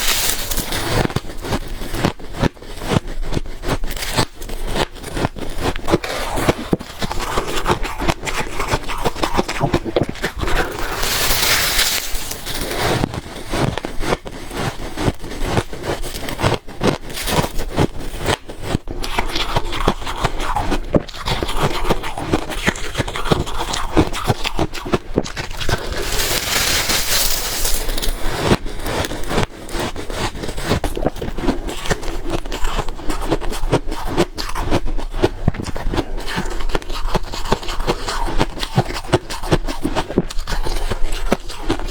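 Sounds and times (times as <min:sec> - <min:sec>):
person crunching ice: 0:00.0 - 0:34.6.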